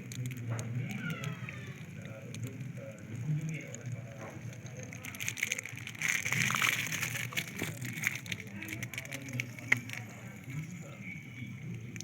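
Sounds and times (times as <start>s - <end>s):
liquid trickling into battery: 0.0s - 12.0s.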